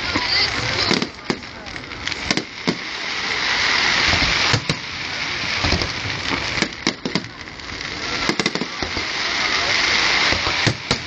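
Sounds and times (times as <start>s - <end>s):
fireworks hissing crackle: 0.0s - 11.0s
fireworks sharp pops: 0.0s - 11.0s.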